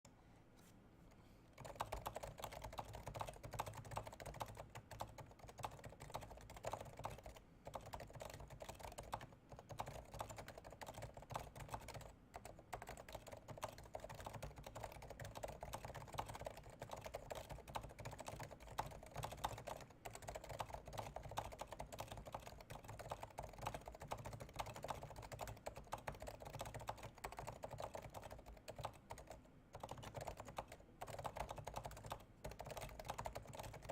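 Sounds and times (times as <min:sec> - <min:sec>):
fast typing on keyboard: 0:01.6 - 0:33.9.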